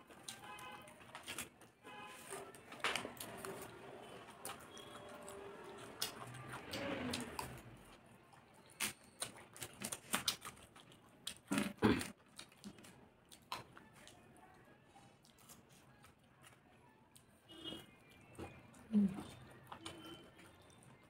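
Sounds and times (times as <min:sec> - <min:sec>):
wet chewing: 0:02.2 - 0:14.6, 0:15.2 - 0:21.0.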